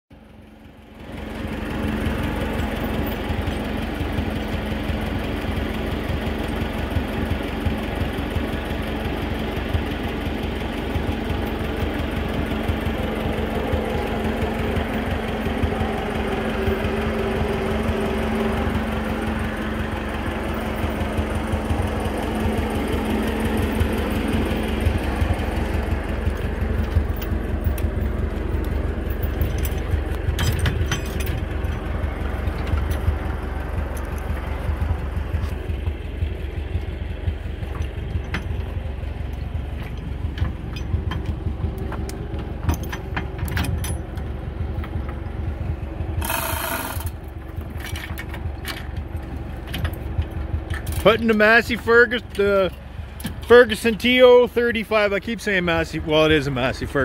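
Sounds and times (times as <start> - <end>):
tractor engine idling: 0.1 - 57.0.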